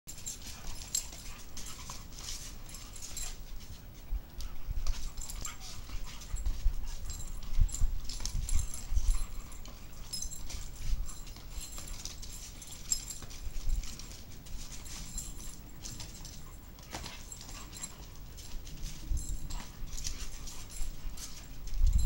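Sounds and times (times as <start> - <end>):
dogs scuffling: 0.1 - 22.0.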